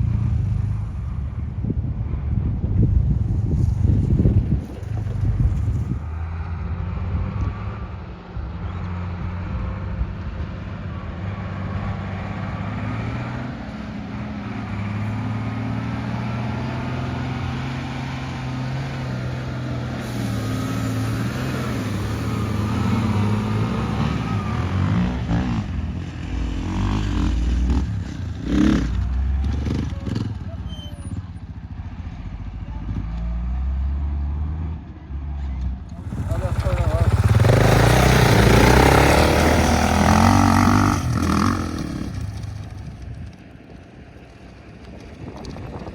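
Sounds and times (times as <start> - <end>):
off-road vehicle engine running: 0.0 - 45.9.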